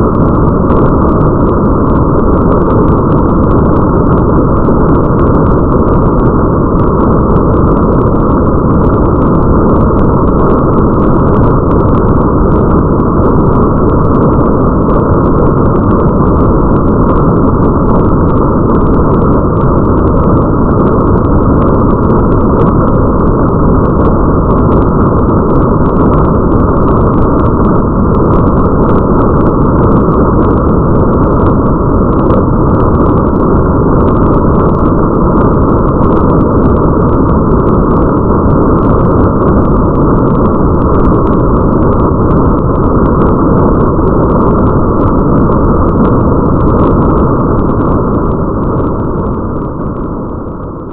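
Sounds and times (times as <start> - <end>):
muffled rain: 0.0 - 50.9.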